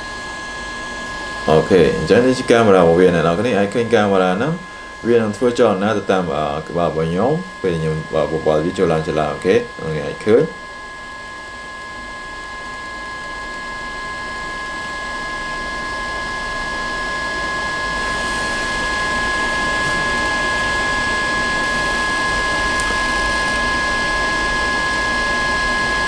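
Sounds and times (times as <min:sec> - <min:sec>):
high steady whine tones: 0:00.0 - 0:26.0.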